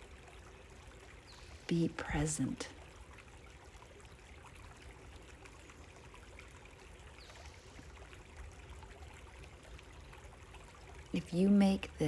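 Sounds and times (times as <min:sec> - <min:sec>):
creek babbling: 0:00.0 - 0:12.0.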